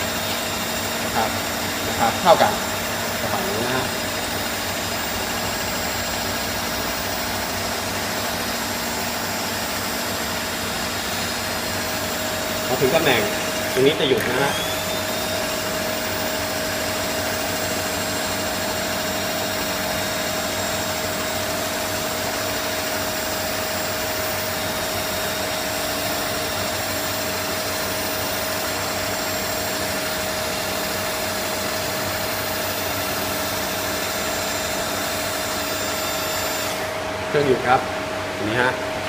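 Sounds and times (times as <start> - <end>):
power feed motor whine: 0.0 - 38.4.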